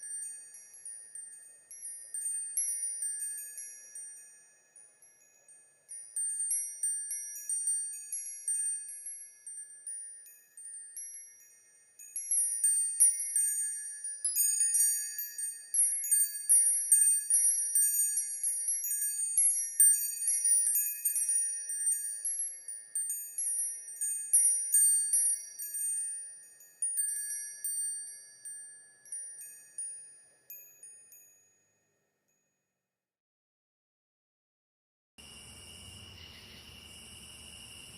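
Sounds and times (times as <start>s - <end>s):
wind chimes ringing: 0.0s - 32.6s.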